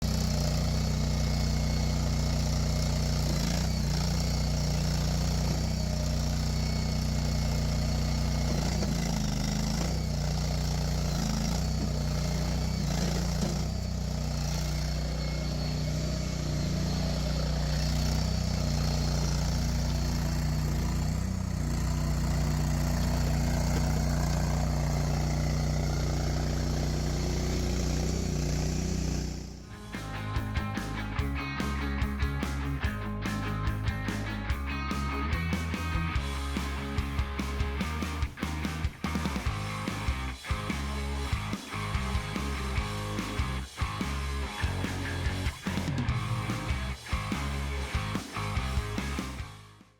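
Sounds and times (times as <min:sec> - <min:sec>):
gas engine running steadily: 0:00.0 - 0:49.8.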